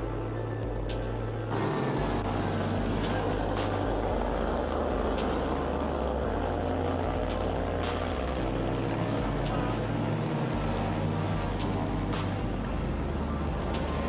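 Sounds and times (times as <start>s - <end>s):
mini motorcycle engines racing: 1.5s - 14.0s.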